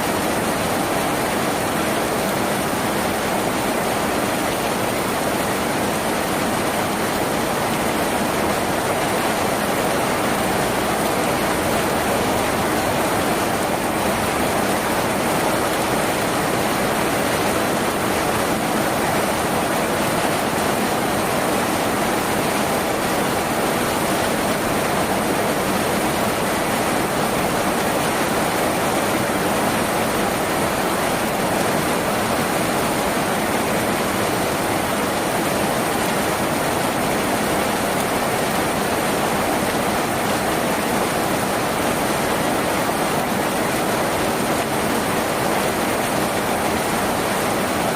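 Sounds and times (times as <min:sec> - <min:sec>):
rain on a tin roof: 0:00.0 - 0:47.9.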